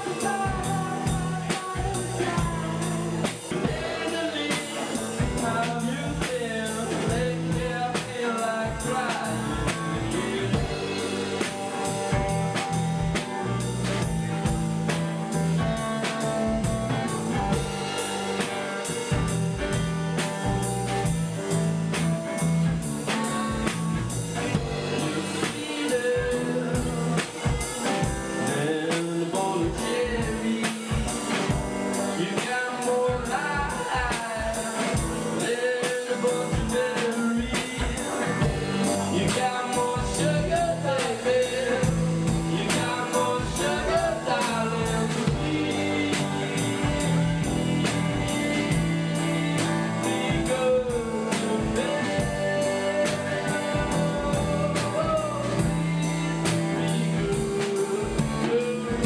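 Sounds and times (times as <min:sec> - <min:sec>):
band playing: 0:00.0 - 0:59.0
drum kit beat: 0:00.0 - 0:59.0
person singing: 0:00.0 - 0:59.0.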